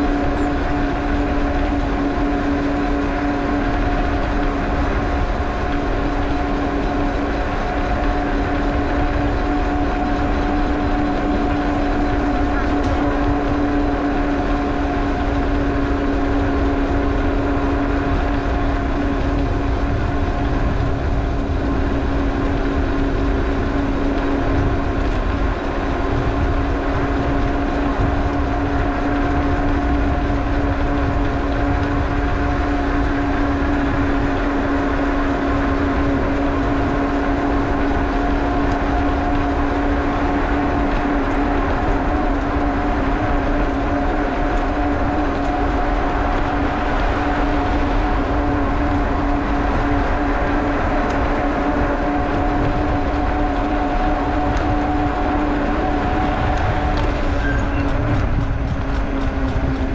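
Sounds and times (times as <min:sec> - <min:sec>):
road rumble: 0:00.0 - 0:59.9
two-note hum: 0:00.0 - 0:59.9
wind noise: 0:00.0 - 0:59.9.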